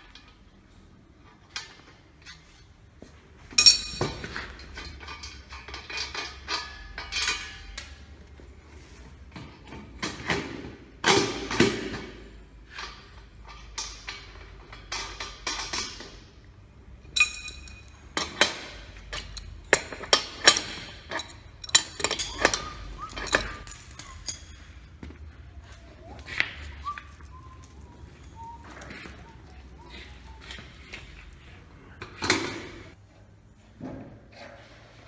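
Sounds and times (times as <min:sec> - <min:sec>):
tools tapping on concrete floor: 0:01.2 - 0:08.6, 0:09.2 - 0:32.9
metal clinks and knocks: 0:03.4 - 0:08.6, 0:09.2 - 0:33.0.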